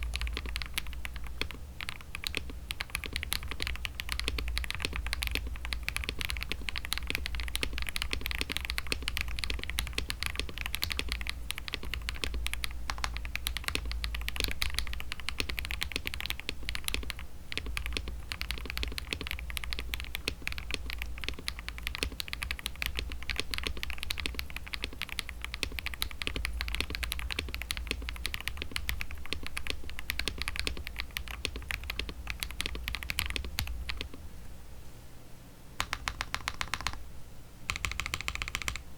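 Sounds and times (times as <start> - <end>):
mechanical keyboard clacking: 0.0 - 34.2, 35.8 - 37.0, 37.7 - 38.8.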